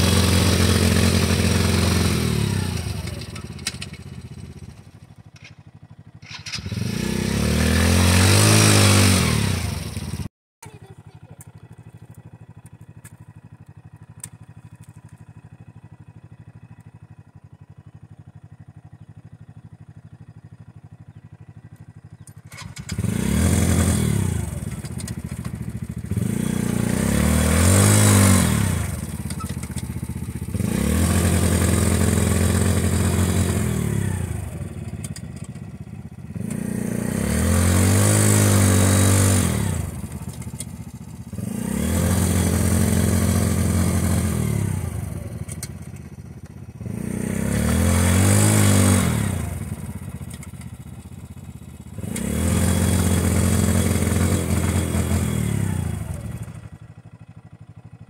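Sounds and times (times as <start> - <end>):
wheels spinning in mud: 0.0 - 56.8
atv engine idling and revving: 0.0 - 58.0.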